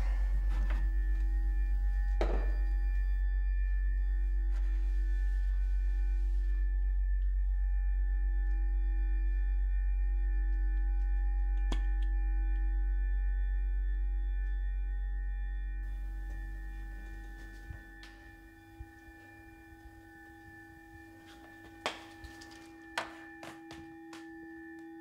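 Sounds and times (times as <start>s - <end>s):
deep low rumble: 0.0s - 21.8s
high ringing tones: 0.0s - 25.0s.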